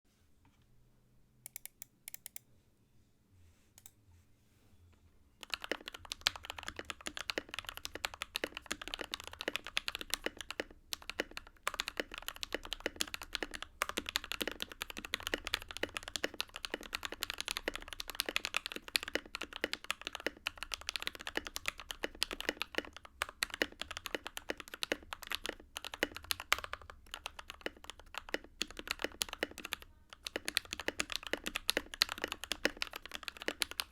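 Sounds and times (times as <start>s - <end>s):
typing on mechanical keyboard: 5.4s - 33.9s.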